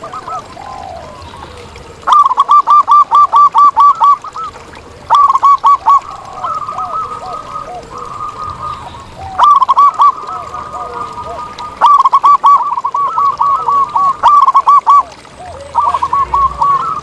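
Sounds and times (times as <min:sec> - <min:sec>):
dove rapid cooing: 0:00.0 - 0:17.0
faint low dove cooing: 0:00.0 - 0:17.0.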